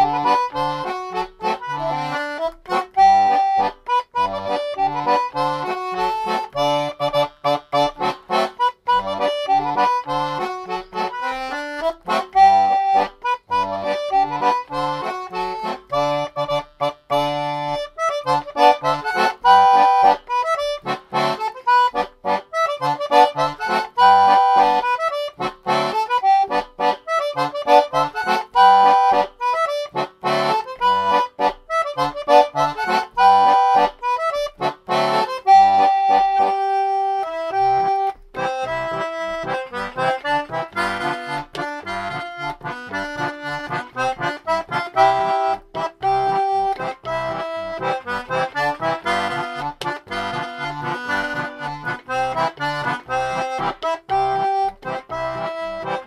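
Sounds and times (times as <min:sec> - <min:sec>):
concertina playing a polka: 0:00.0 - 0:56.0.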